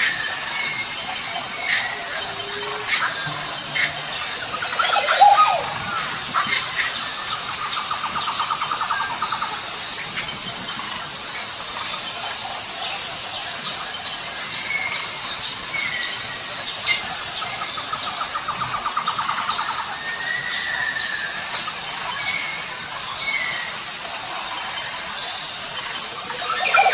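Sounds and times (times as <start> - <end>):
high-pitched insect drone: 0.0 - 26.9
rapid trilling calls: 0.0 - 26.9.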